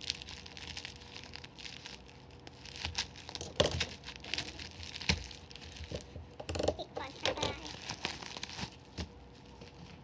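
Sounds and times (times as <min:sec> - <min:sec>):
plastic mailer crinkling and tearing: 0:00.0 - 0:10.0.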